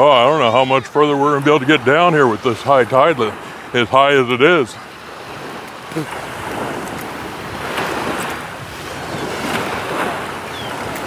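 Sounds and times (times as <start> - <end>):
waves washing onto beach: 0.0 - 11.0
wind buffeting microphone: 0.6 - 11.0.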